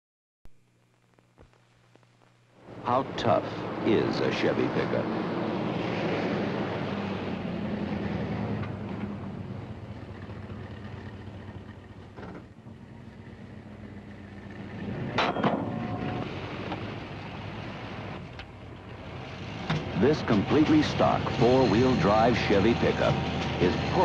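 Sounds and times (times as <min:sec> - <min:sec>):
truck engine under heavy load: 0:02.6 - 0:24.0.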